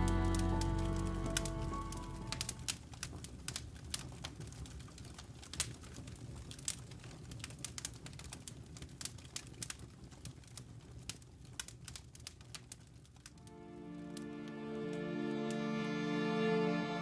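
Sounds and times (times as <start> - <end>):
low fire rumble: 0.0 - 14.4
wood fire crackling: 0.0 - 14.6.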